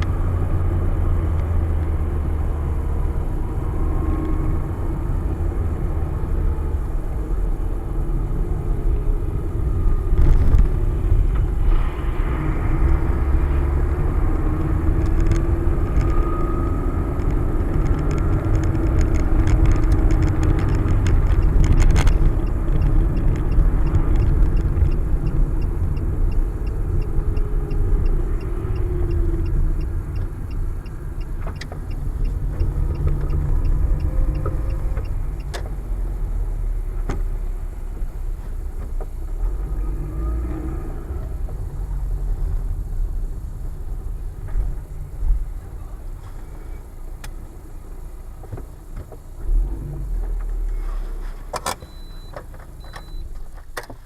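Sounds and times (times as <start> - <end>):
car rumbling on the move: 0.0 - 54.0.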